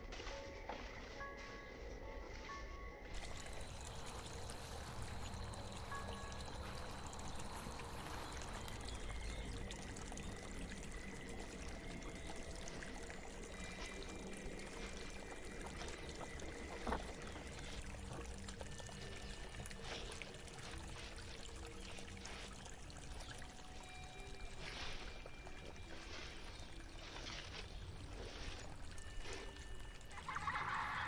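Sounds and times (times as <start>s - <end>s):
trickling water: 3.1s - 31.0s.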